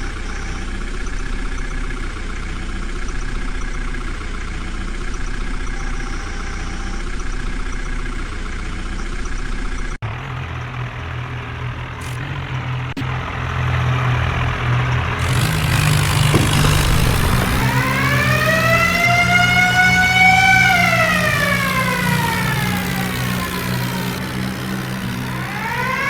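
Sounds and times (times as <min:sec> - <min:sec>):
heavy machinery diesel engines: 0:00.0 - 0:26.0.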